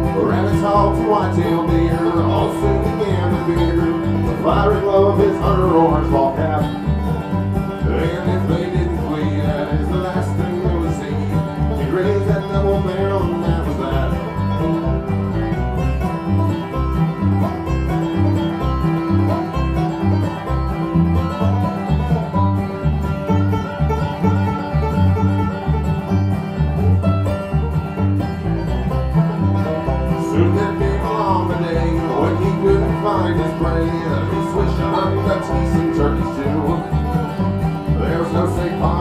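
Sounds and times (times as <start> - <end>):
acoustic guitar rhythm: 0.0 - 39.0
banjo picking fast lead: 0.0 - 39.0.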